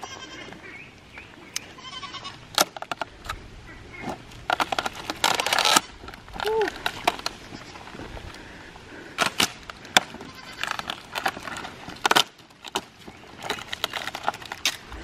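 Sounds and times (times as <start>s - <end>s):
pipe rolling across gravelly dirt: 0.0s - 15.0s.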